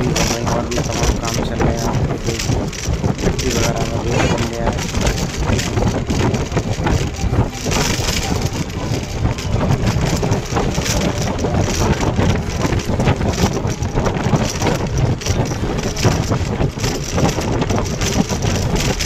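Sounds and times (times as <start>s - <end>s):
moving vehicle running noise: 0.0s - 19.0s
wind rumbling on microphone: 0.0s - 19.0s.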